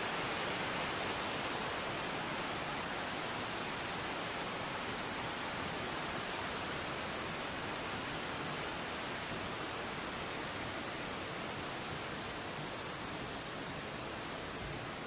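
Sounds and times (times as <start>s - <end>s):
falling water rushing: 0.0s - 15.0s.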